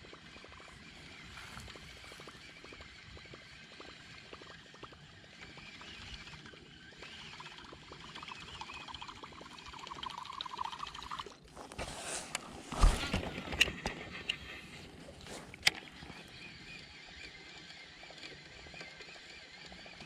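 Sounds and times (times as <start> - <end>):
fishing reel clicking and whirring: 0.0 - 11.4, 12.8 - 20.0.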